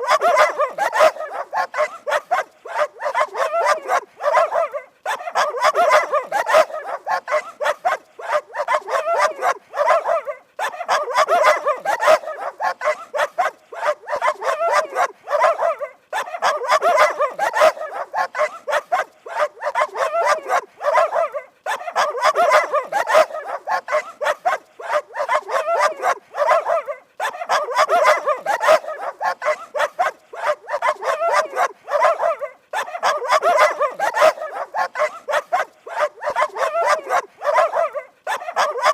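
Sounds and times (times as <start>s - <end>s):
dogs barking rapidly: 0.0s - 38.9s.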